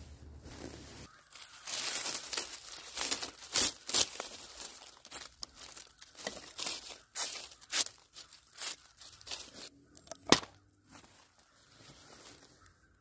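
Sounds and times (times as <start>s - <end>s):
twigs and leaves crackling: 0.0s - 13.0s.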